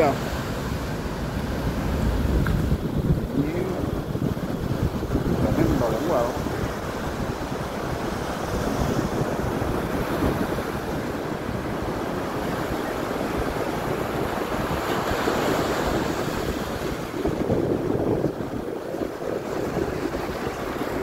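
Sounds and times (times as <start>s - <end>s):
waves washing on beach: 0.0s - 21.0s
wind noise on microphone: 0.0s - 21.0s.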